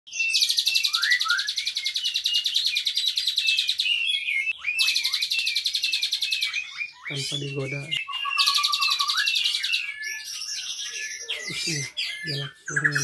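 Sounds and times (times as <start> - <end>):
starling singing chattering trill: 0.1 - 13.0.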